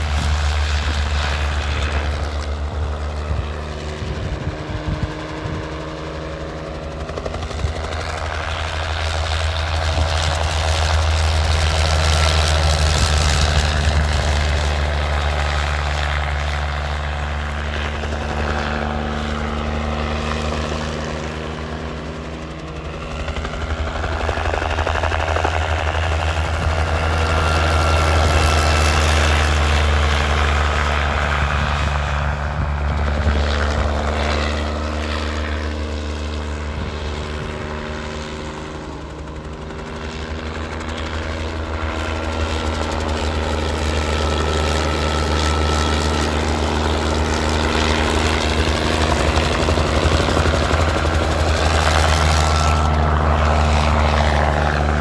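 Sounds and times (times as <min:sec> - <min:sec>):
helicopter flying low past: 0:00.0 - 0:55.0.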